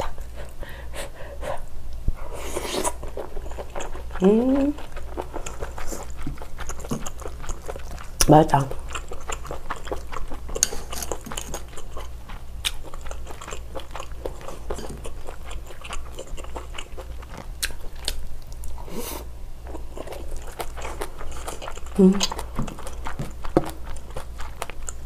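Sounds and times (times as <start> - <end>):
chewing and biting food: 2.7 - 18.8, 19.6 - 25.0.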